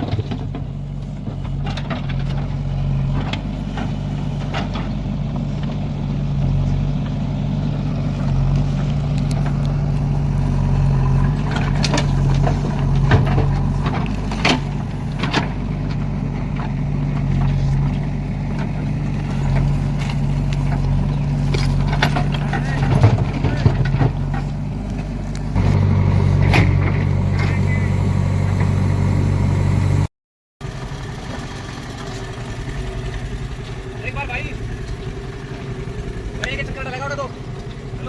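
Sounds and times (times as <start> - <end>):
diesel machinery engine running: 0.0 - 38.0.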